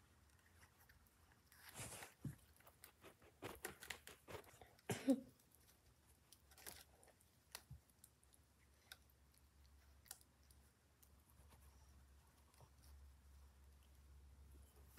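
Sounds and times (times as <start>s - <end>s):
cat scratching and rustling: 0.0s - 14.9s.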